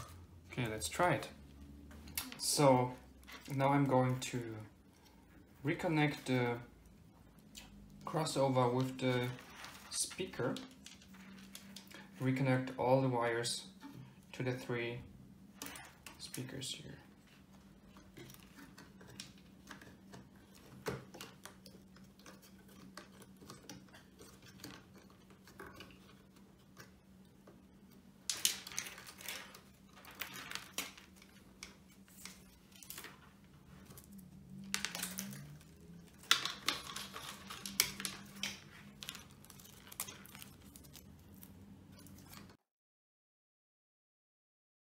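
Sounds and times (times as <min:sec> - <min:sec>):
wire rustling and scraping: 0:00.0 - 0:12.6, 0:15.5 - 0:42.6.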